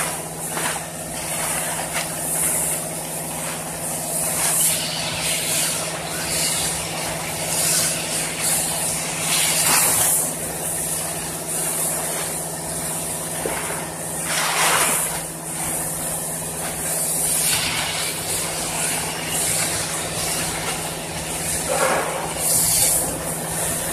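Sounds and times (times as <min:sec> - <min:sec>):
blower hissing: 0:00.0 - 0:23.9
plastic sheet rustling and crackling: 0:00.0 - 0:23.9
welding machine humming: 0:00.0 - 0:23.9.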